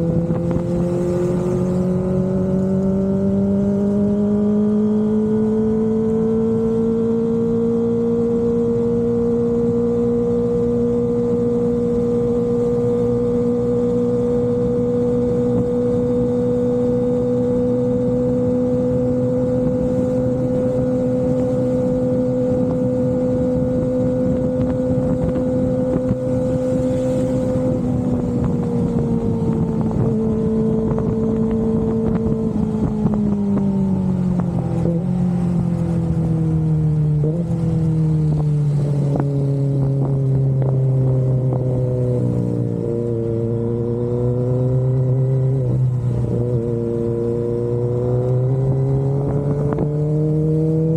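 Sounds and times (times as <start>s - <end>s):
motorcycle engine high steady note: 0.0s - 50.9s.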